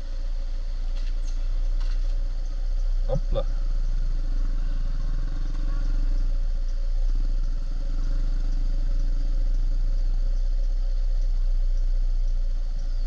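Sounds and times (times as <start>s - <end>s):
motorbike engine idling: 0.0s - 13.0s.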